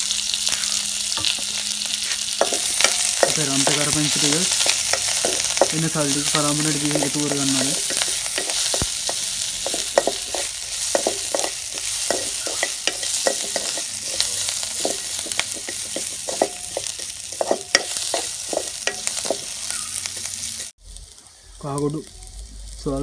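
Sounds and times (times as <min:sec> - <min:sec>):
onion sizzling in hot oil: 0:00.0 - 0:23.0
wooden spoon scraping wok: 0:01.2 - 0:20.7.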